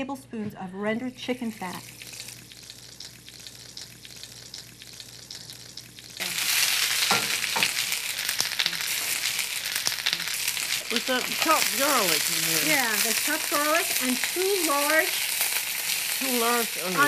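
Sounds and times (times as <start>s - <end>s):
fat sizzling with crackles: 1.2s - 17.0s
loud frying hiss: 1.4s - 17.0s.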